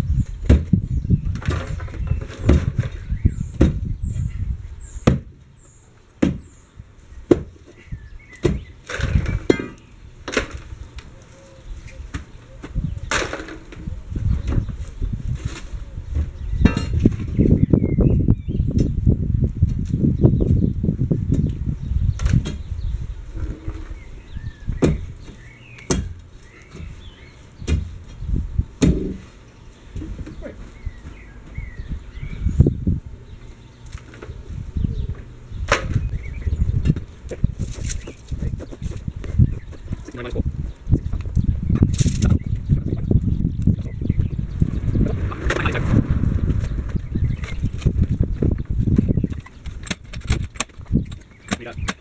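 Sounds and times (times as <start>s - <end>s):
birds chirping: 0.0s - 19.2s, 20.1s - 52.0s.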